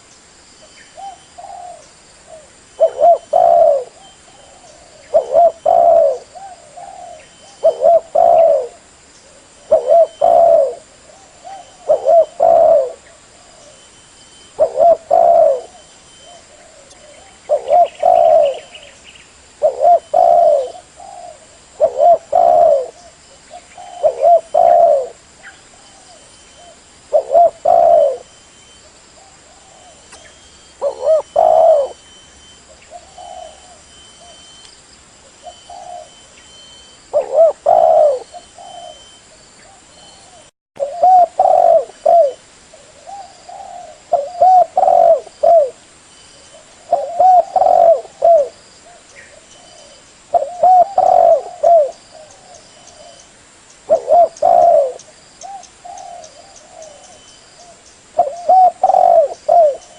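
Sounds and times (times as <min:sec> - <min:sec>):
dove cooing: 0:01.0 - 0:19.0, 0:19.6 - 0:34.6, 0:35.3 - 0:45.8, 0:46.4 - 0:53.3, 0:53.9 - 0:59.9.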